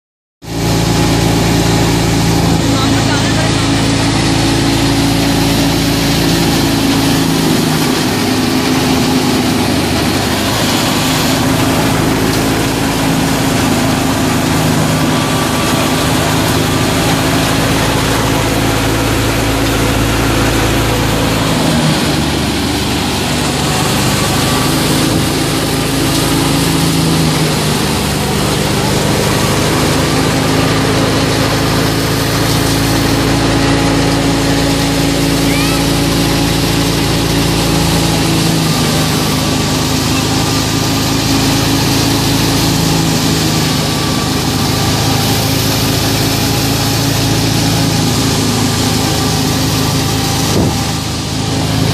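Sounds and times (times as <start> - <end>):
thresher machine drone: 0.4 - 51.9.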